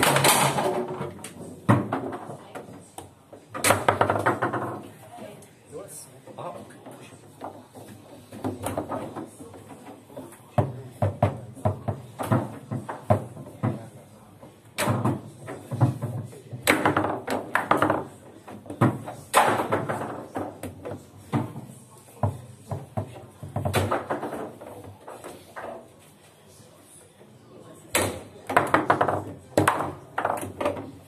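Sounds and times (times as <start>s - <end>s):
foosball figures striking ball: 0.0s - 4.9s, 6.8s - 25.8s, 27.9s - 31.0s.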